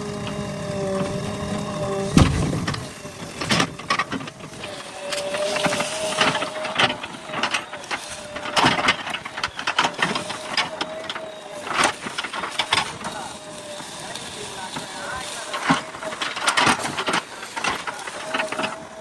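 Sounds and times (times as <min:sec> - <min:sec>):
backhoe loader engine whine: 0:00.0 - 0:19.0
clanks knocks and scrapes: 0:00.2 - 0:19.0.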